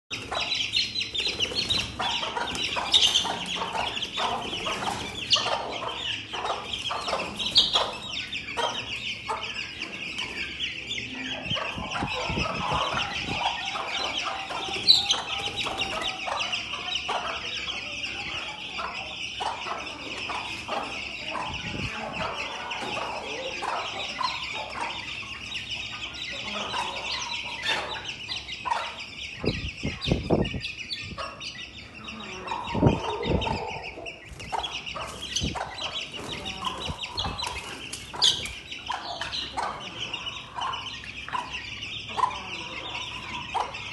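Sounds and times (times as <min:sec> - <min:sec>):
chicks cheeping: 0:00.1 - 0:43.9.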